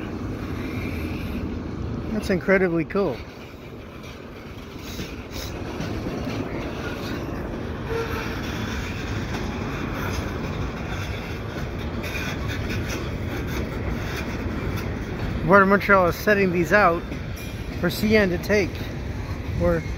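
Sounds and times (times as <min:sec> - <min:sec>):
freight cars rolling on rails: 0:00.0 - 0:19.9
wheels clicking over track: 0:01.9 - 0:19.9.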